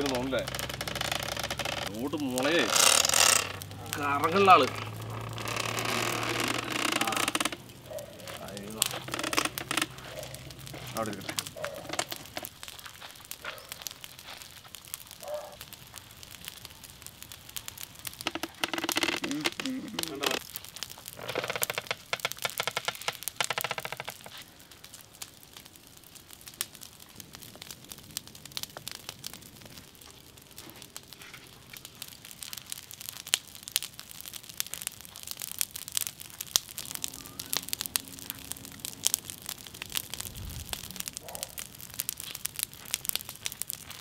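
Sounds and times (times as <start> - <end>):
charcoal fire crackling and popping: 0.0 - 44.0.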